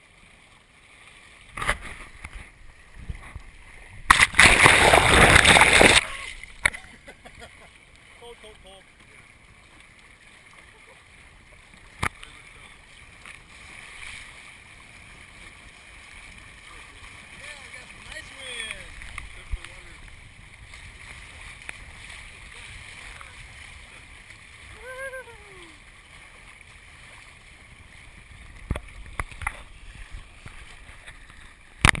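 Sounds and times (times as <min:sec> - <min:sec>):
water washing along a hull: 0:00.0 - 0:32.0.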